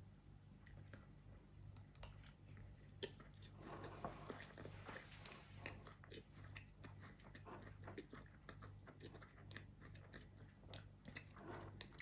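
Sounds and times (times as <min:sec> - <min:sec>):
chewing with wet mouth clicks: 0:01.7 - 0:12.0.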